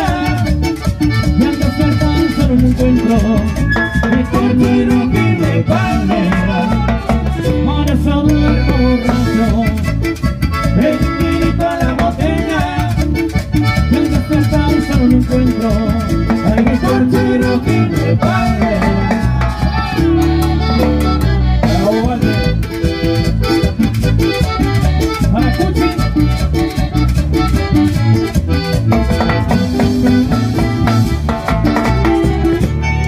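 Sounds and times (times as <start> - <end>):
button accordion melody: 0.0 - 33.0
live latin dance band: 0.0 - 33.0.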